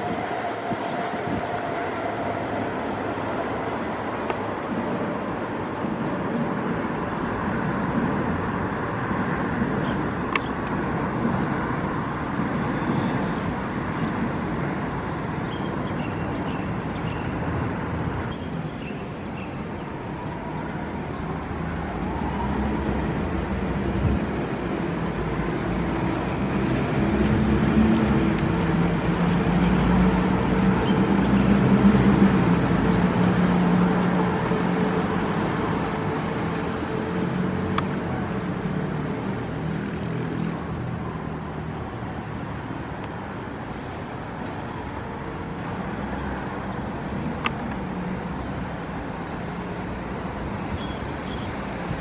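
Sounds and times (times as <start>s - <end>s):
people-mover car humming: 0.0s - 52.0s
train rumbling on rails: 0.0s - 52.0s.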